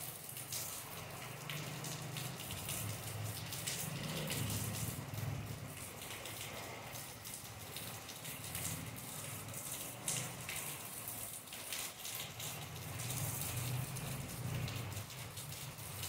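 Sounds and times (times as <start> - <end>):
rain on leaves and paving: 0.0 - 16.0.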